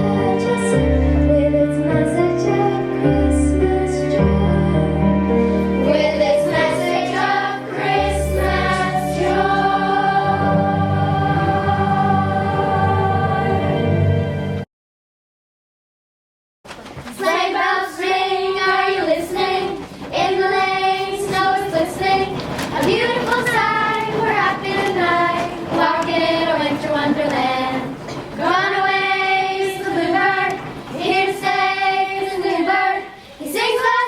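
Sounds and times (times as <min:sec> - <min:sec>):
children singing in unison: 0:00.0 - 0:14.0, 0:17.1 - 0:34.0.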